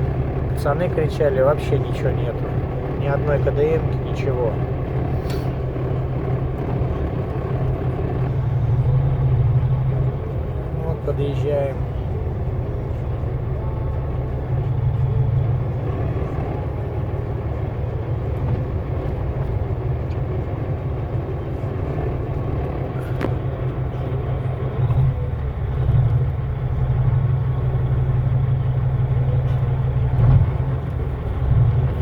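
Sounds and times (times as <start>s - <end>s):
truck diesel engine droning: 0.0s - 32.0s.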